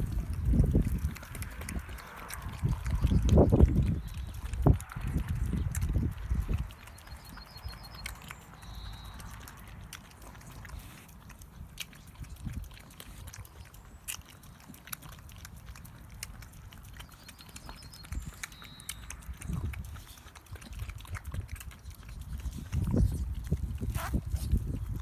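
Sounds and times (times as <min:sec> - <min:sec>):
dogs sniffing and chewing: 0:00.0 - 0:25.0.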